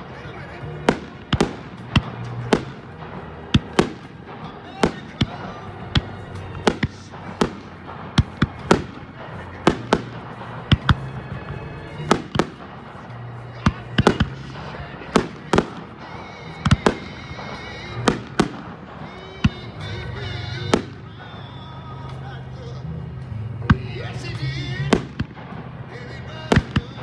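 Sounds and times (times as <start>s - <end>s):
fireworks bangs: 0.0s - 22.8s, 23.6s - 27.0s
background music: 0.0s - 27.0s.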